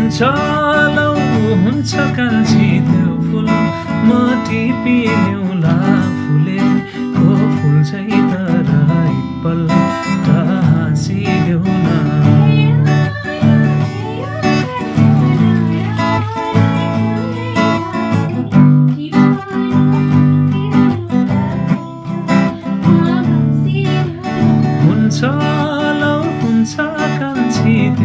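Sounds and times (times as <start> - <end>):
acoustic guitar strumming: 0.0 - 28.0
person singing: 0.0 - 28.0.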